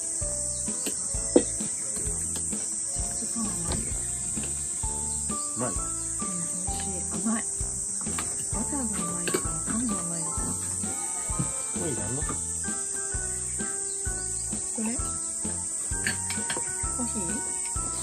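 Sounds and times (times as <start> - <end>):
background music with bass line: 0.0 - 18.0
high-pitched insect trilling: 0.0 - 18.0.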